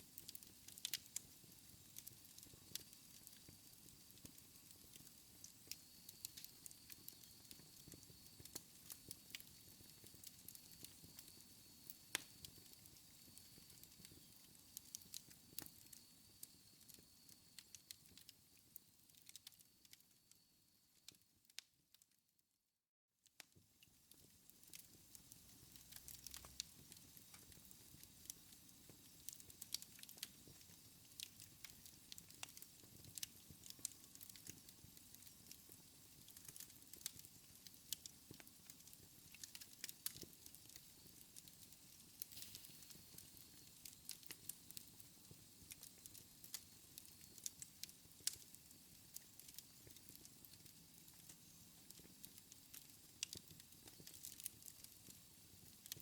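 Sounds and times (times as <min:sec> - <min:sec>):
fire pops and snaps: 0:00.0 - 0:18.4, 0:24.1 - 0:56.0
wood fire crackling: 0:00.0 - 0:20.4, 0:24.1 - 0:56.0
faint steady hiss: 0:00.0 - 0:21.7, 0:23.4 - 0:56.0.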